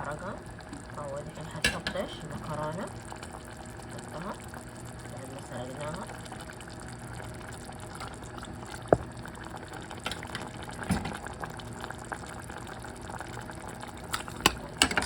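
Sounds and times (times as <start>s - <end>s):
sauce bubbling in pot: 0.0s - 15.0s.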